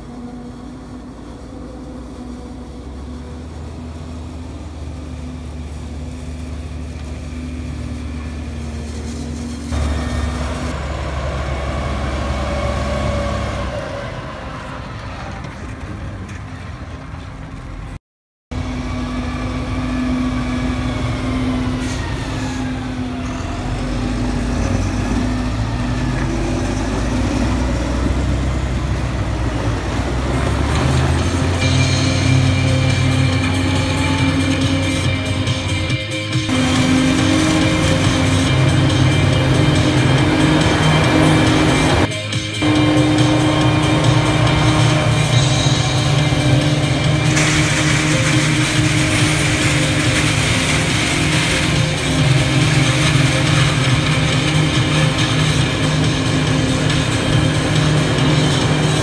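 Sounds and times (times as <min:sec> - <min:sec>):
tractor diesel engines running: 0:00.0 - 0:59.0.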